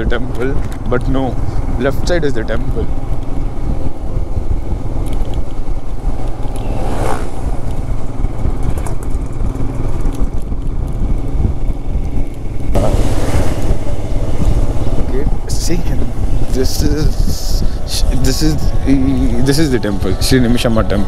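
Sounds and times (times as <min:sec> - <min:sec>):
motorcycle engine running: 0:00.0 - 0:21.0
rush of noise: 0:00.0 - 0:21.0.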